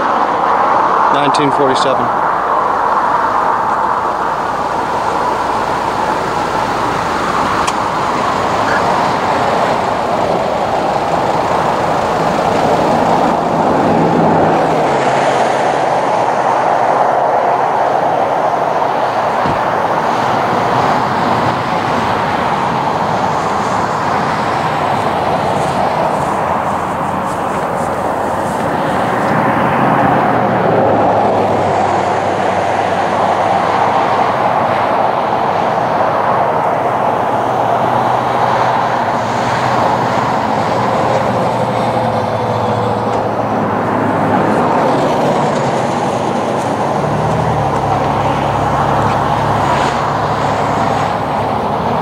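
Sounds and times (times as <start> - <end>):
diesel locomotive engine drone: 0.0 - 52.0
rushing rumble: 0.0 - 52.0.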